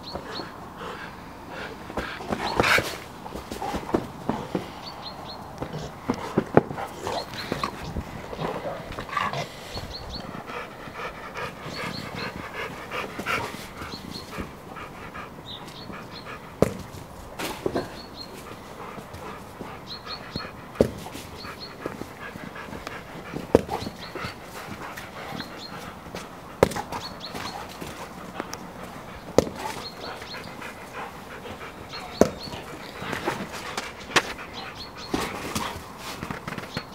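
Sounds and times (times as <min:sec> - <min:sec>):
dog panting: 0:00.0 - 0:36.9.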